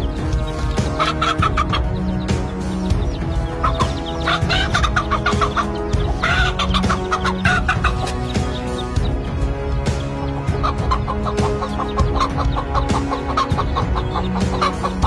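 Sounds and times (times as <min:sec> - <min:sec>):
background music with sustained notes: 0:00.0 - 0:15.0
hen clucking and squawking: 0:00.0 - 0:15.0.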